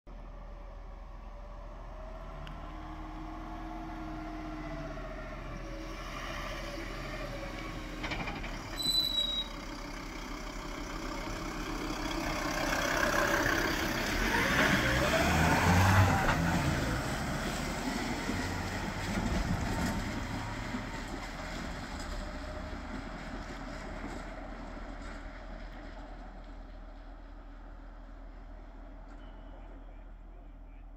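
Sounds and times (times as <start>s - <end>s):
fire engine driving past: 0.1s - 30.9s.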